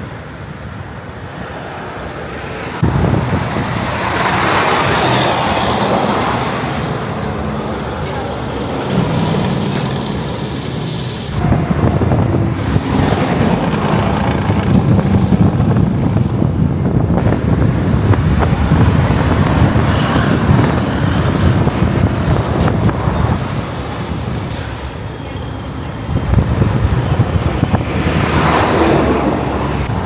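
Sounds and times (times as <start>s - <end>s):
heavy vehicles rumbling by: 0.1s - 30.0s.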